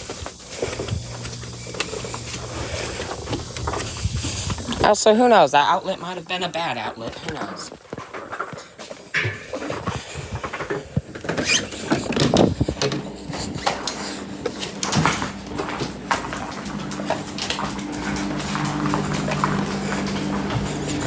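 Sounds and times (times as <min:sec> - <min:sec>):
steady low hum: 0:00.0 - 0:07.0, 0:09.1 - 0:21.0.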